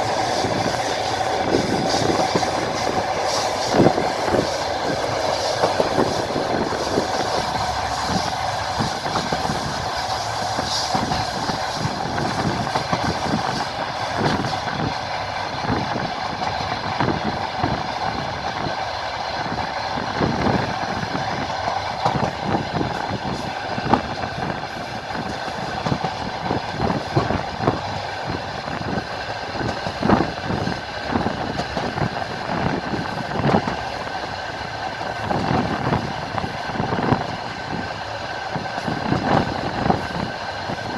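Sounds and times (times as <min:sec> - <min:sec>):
train rolling rumble: 0:00.0 - 0:40.9
train wheels clacking over rail joints: 0:00.0 - 0:40.9.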